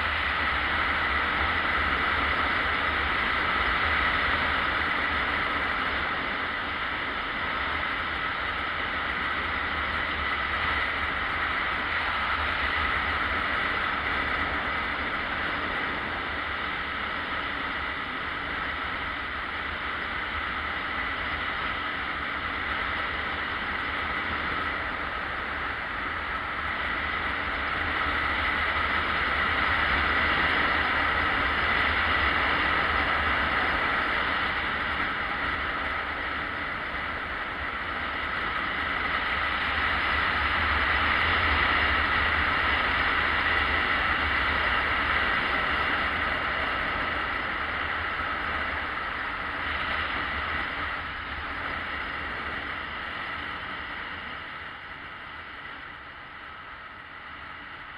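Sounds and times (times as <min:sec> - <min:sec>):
wind and road noise: 0:00.0 - 0:57.9.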